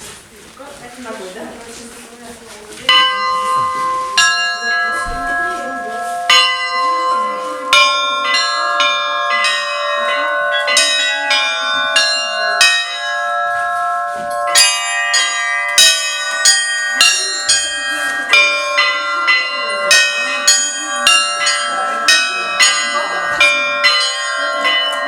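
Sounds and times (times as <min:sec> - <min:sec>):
church bells ringing: 0:02.8 - 0:25.0.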